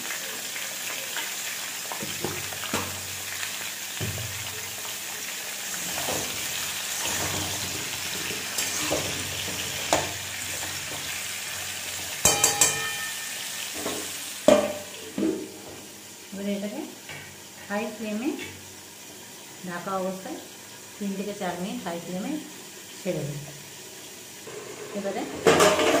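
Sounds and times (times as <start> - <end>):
potatoes sizzling in oil: 0.0 - 26.0.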